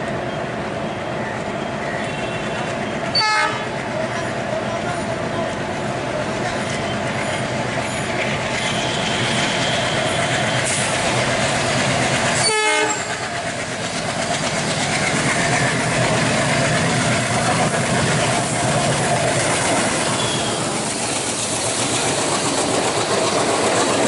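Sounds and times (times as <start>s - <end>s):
diesel locomotive engine running hard: 0.0s - 24.0s
train wheels on rails: 0.0s - 24.0s.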